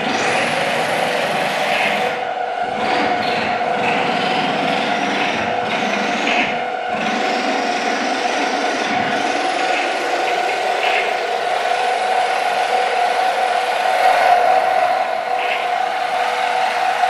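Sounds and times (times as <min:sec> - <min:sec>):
electronic noise music: 0:00.0 - 0:17.0.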